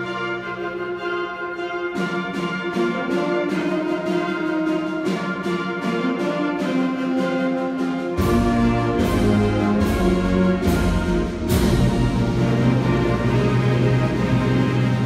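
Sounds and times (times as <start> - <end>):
concert band playing: 0.0 - 15.0.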